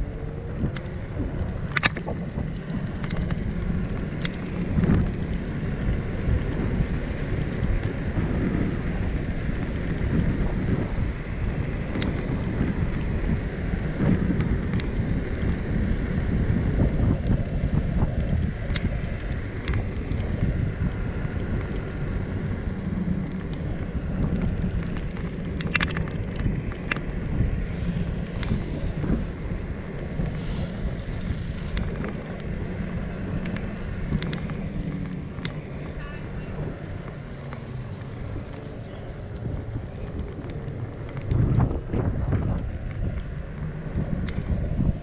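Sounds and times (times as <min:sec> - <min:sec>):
sharp clicks from road cracks: 0:00.0 - 0:45.0
skateboard wheels rolling on asphalt: 0:00.0 - 0:45.0
wind on microphone: 0:00.0 - 0:45.0.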